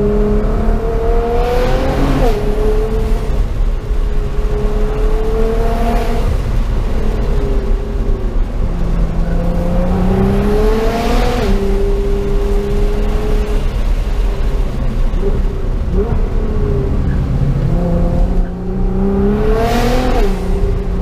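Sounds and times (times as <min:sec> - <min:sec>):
car engine revving: 0:00.0 - 0:21.0
low road rumble: 0:00.0 - 0:21.0.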